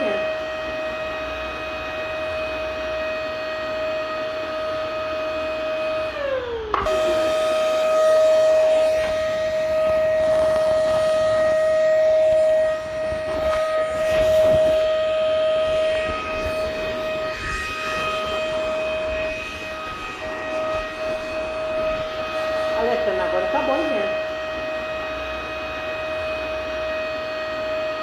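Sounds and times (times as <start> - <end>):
vacuum cleaner motor whining: 0.0 - 28.0.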